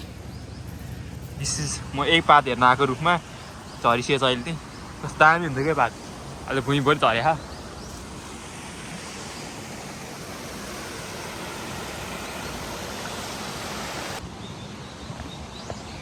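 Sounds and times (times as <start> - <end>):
steady rushing hiss: 0.0 - 14.3.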